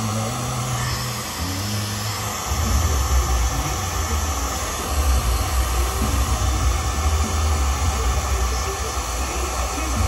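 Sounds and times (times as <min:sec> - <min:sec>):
hair dryer running: 0:00.0 - 0:10.0.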